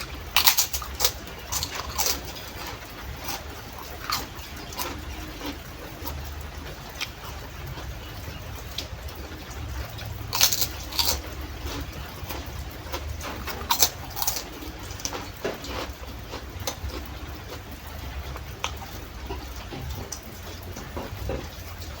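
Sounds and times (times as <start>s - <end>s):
chewing and crunching: 0.0s - 22.0s.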